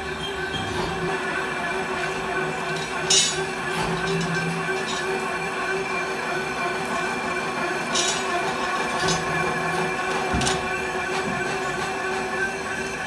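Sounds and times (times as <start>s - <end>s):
workshop machinery drone: 0.0s - 13.0s.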